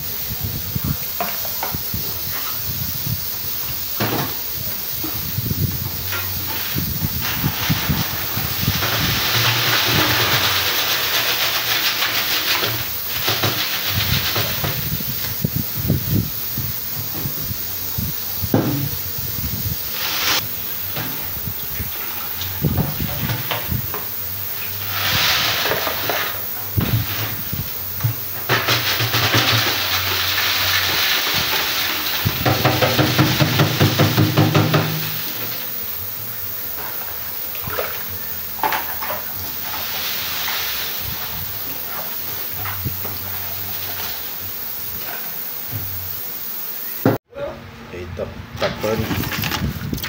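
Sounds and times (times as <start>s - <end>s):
water pouring and splashing: 0.8s - 17.5s, 19.5s - 45.9s.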